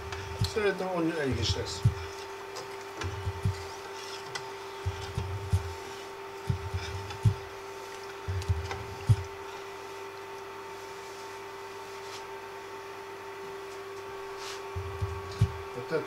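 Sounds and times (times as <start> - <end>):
induction cooker hum: 0.0 - 16.0.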